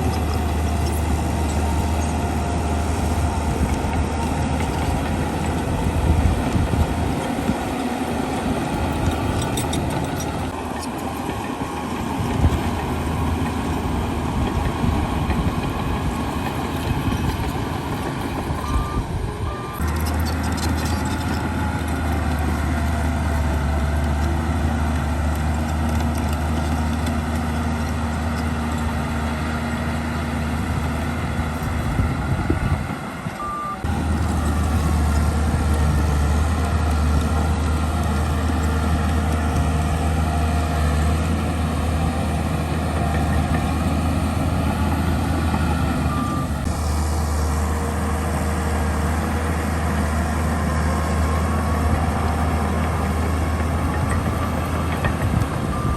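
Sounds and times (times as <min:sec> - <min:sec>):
diesel machinery engine drone: 0:00.0 - 0:55.9.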